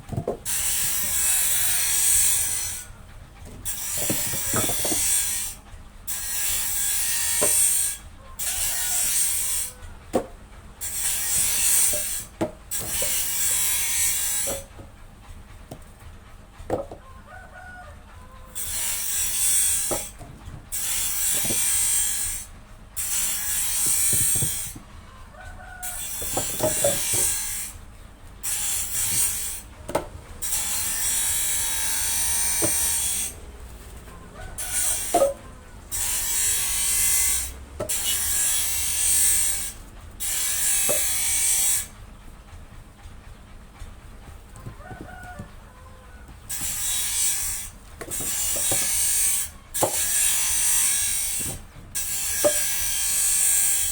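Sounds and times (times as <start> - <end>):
woodworking tool cutting wood: 0.0 - 14.9, 18.5 - 24.9, 25.7 - 42.0, 46.4 - 53.9.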